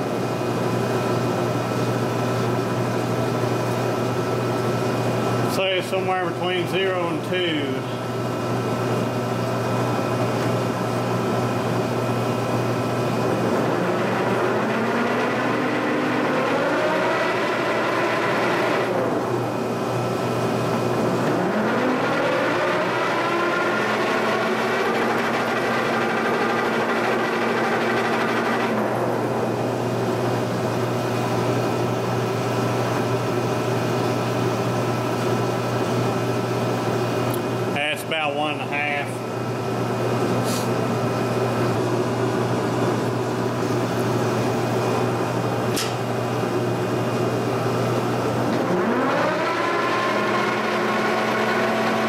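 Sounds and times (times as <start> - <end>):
mill feed drive whining: 0.0 - 52.0
steady machine hum: 0.0 - 52.0.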